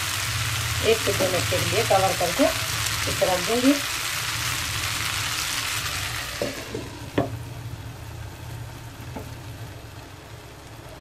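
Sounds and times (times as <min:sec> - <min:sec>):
rice sizzling in a pan: 0:00.0 - 0:11.0.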